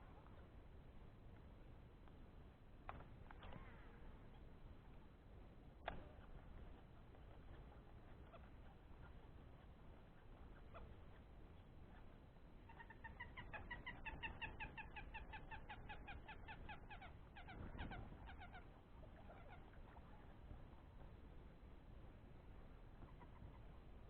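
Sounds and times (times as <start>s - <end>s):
faint low background: 0.0s - 24.0s.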